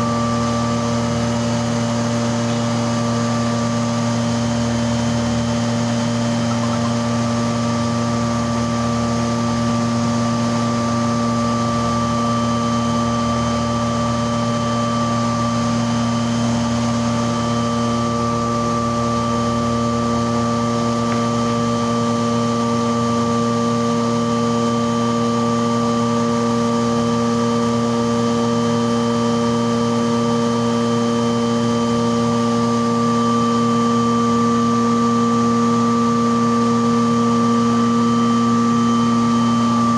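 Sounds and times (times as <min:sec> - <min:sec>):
machine humming: 0:00.0 - 0:39.9.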